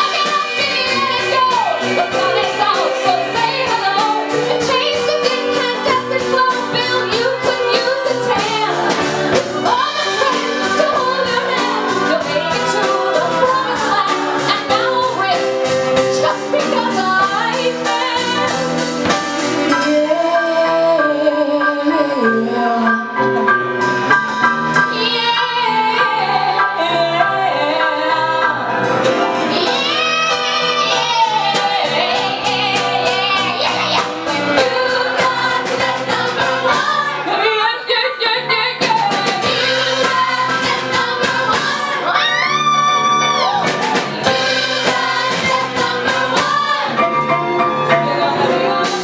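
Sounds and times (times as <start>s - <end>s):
woman singing: 0.0s - 18.9s, 19.6s - 23.3s, 24.8s - 28.7s, 29.5s - 47.1s, 47.8s - 49.0s
steady drum beats: 0.0s - 20.8s, 28.8s - 37.4s, 38.7s - 49.0s
backing singers: 0.0s - 49.0s
small band playing: 0.0s - 49.0s.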